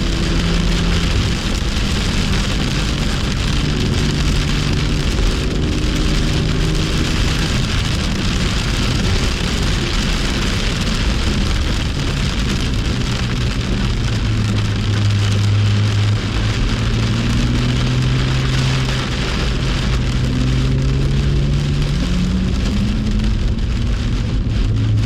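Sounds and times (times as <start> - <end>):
car engine: 0.0 - 25.0
heavy rain and spray hissing: 0.0 - 25.0.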